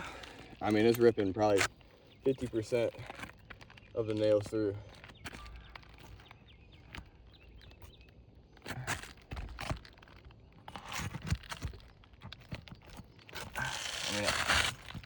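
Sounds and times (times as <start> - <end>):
shingles crunching: 0.0 - 15.0.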